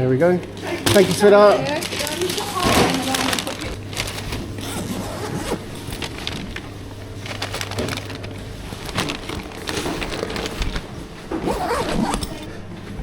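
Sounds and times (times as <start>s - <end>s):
steady low hum: 0.0s - 13.0s
rustling and crinkling: 0.4s - 13.0s.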